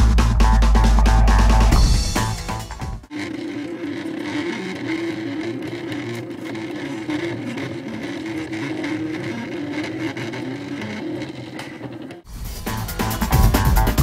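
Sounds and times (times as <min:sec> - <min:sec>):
stepper motors whining: 0:00.0 - 0:12.3.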